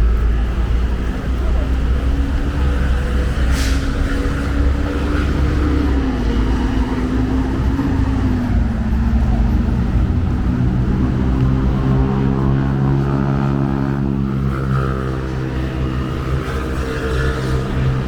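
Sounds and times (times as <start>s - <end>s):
heavy vehicle engine running: 0.0s - 18.0s
low traffic rumble: 0.0s - 18.0s.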